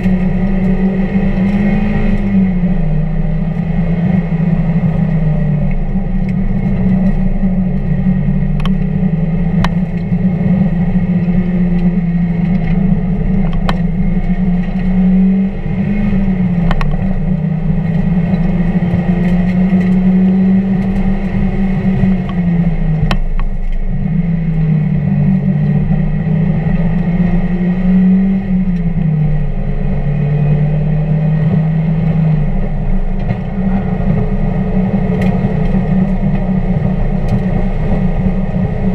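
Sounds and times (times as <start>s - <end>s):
car engine running: 0.0s - 38.9s
road and wind noise: 0.0s - 38.9s.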